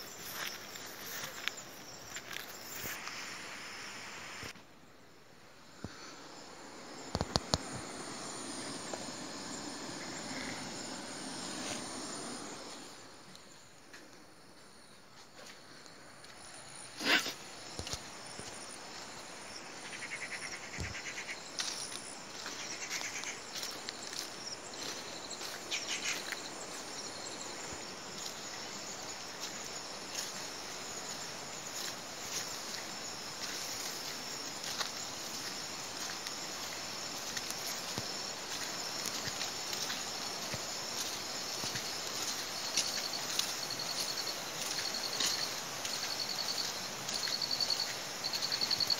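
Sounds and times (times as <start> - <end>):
footsteps on dirt path: 0.0 - 3.2, 6.6 - 19.3, 20.8 - 48.9
insects chirring: 0.0 - 48.9.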